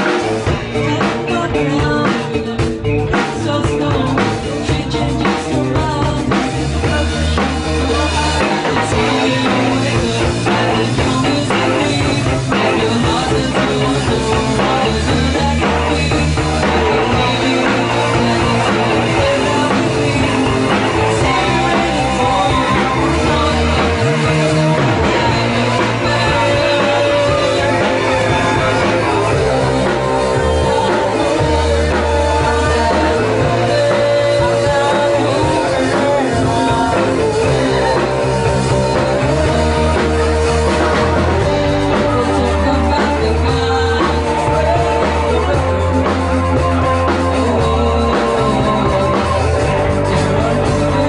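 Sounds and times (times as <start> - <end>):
bass line: 0.0 - 51.0
electric guitars: 0.0 - 51.0
lead singer's vocals: 0.0 - 51.0.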